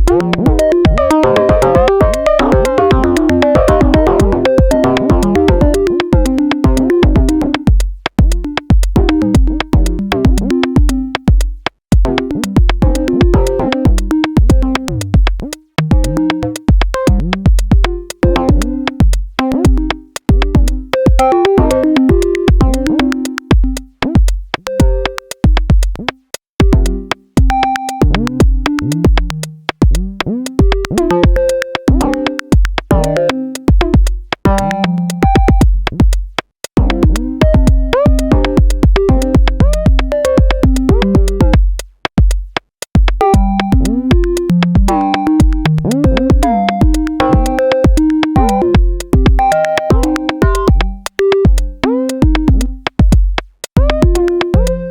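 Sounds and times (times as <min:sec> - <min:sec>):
stepped synth notes: 0:00.0 - 0:41.8, 0:43.0 - 0:54.9
drum machine beat: 0:00.0 - 0:54.9.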